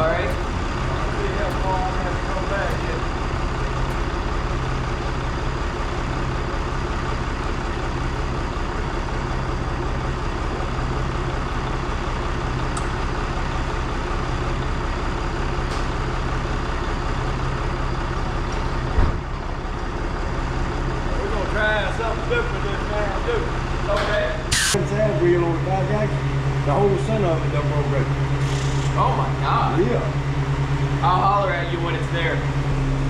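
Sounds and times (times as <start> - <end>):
engine running steadily: 0.0 - 33.0.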